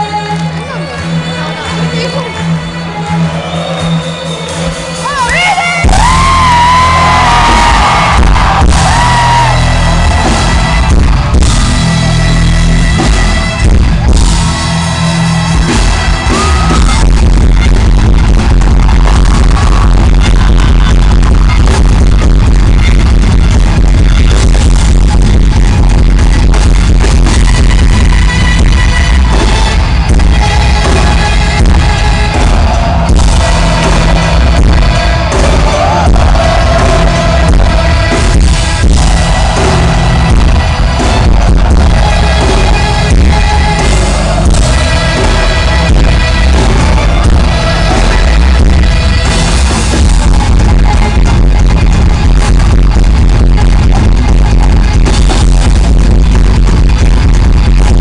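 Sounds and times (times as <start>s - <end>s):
loud live music with heavy bass: 0.0s - 58.0s.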